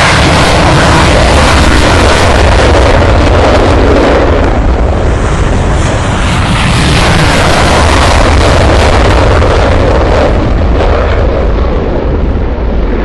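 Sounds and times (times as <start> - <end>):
jet roaring low overhead: 0.0 - 13.0.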